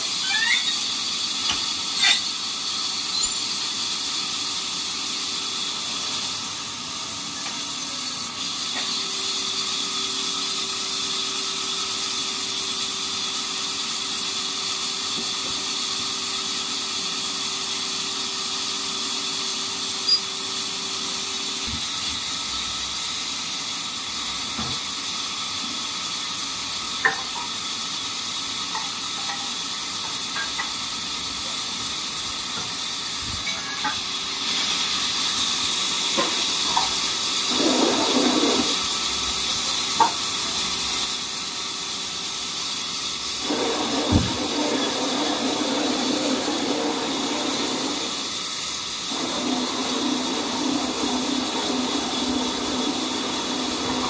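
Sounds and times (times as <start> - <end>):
sawmill running hiss: 0.0 - 54.0.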